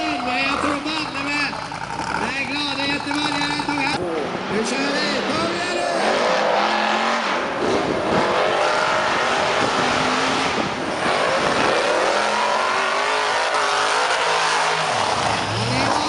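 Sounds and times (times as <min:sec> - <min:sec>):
off-road buggy engines revving: 0:00.0 - 0:16.0.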